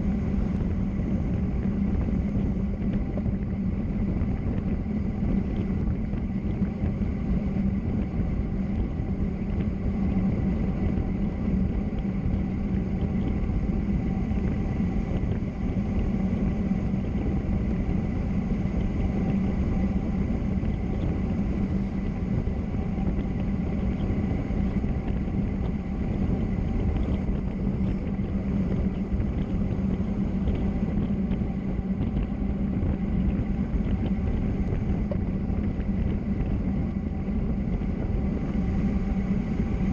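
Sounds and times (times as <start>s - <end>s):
faint high whine: 0.0s - 39.9s
low hum: 0.0s - 39.9s.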